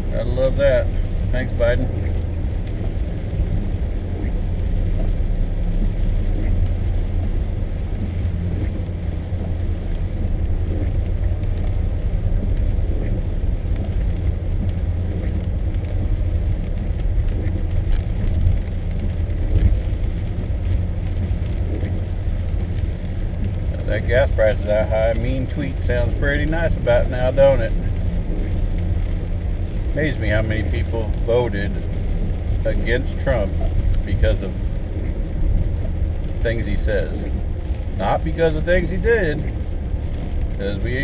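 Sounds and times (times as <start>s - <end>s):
car interior road rumble: 0.0s - 41.0s.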